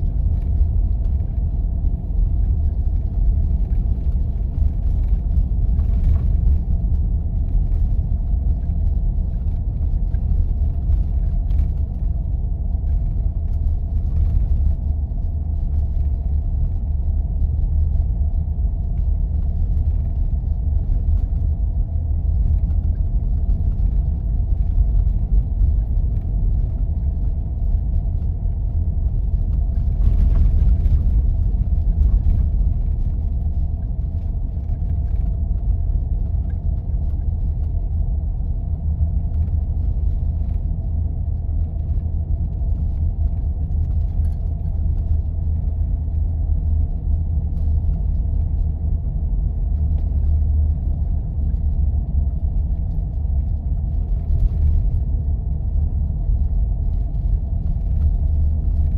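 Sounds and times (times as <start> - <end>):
faint steady hum: 0.0 - 58.9
vehicle engine and tyres rumbling: 0.0 - 58.9.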